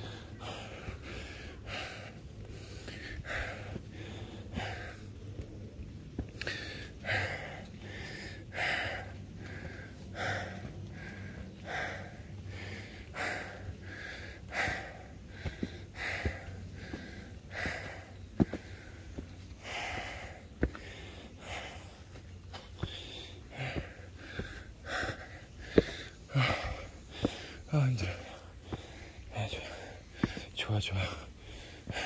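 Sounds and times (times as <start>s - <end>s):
person breathing hard: 0.0s - 32.0s.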